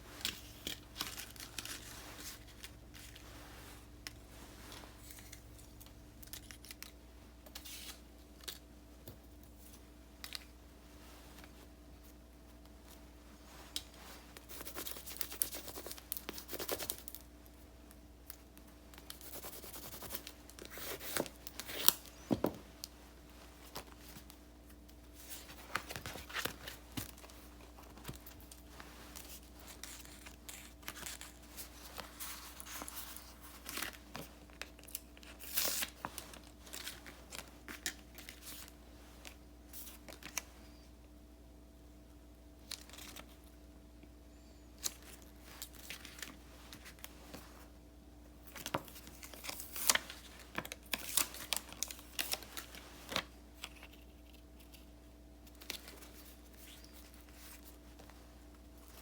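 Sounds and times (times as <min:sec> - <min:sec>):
paper crinkling and rustling: 0:00.0 - 0:10.6, 0:18.2 - 0:40.8, 0:42.6 - 0:43.5, 0:44.8 - 0:47.7, 0:48.4 - 0:59.0.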